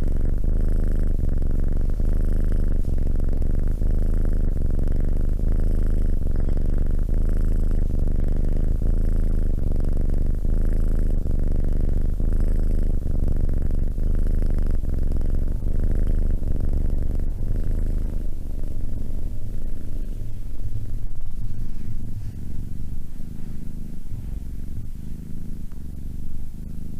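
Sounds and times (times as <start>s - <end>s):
cat purring: 0.0s - 26.9s.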